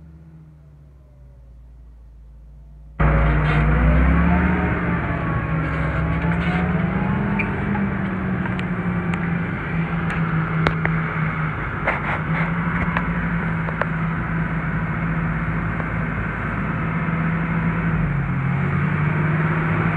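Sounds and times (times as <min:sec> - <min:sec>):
tractor diesel engine under load: 0:00.0 - 0:19.9.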